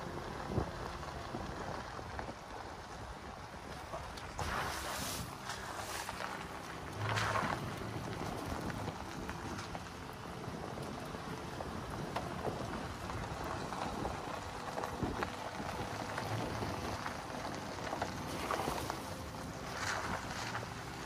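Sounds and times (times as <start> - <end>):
tyres crackling over gravel: 0.0 - 21.0
wind rushing over microphone: 0.2 - 21.0.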